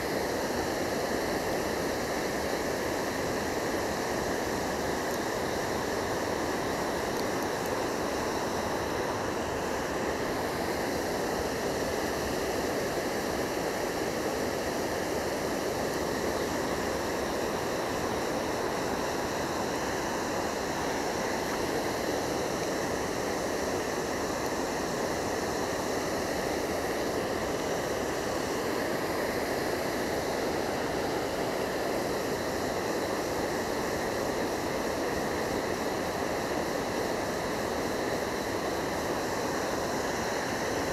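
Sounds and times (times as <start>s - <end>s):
water rushing over weir: 0.0s - 40.9s.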